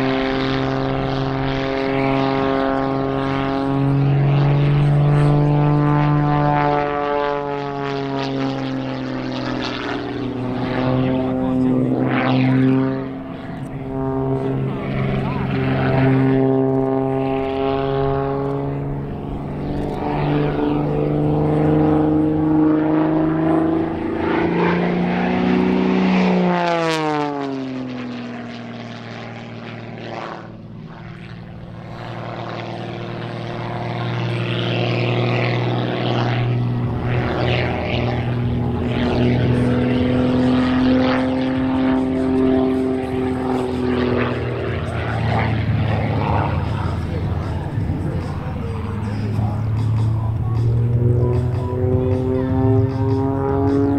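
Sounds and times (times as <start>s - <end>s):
propeller plane flying past: 0.0s - 53.9s.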